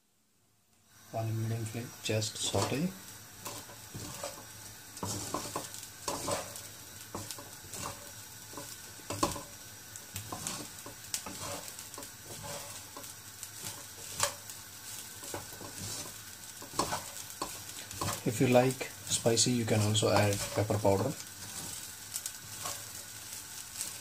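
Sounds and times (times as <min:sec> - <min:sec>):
frying sizzle: 0:00.0 - 0:24.0
spatula scraping and tapping wok: 0:02.3 - 0:24.0.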